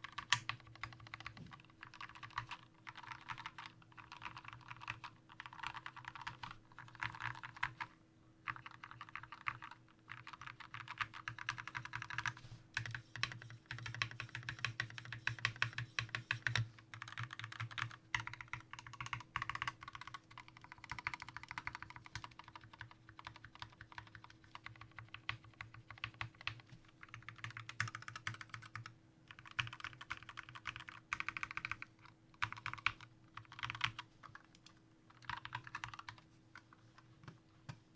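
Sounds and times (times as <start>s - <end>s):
fast typing on mechanical keyboard: 0.0s - 36.2s.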